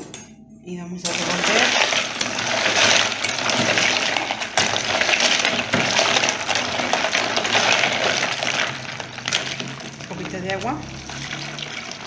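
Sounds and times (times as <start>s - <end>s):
ice cubes clinking in plastic jar: 1.1s - 12.0s.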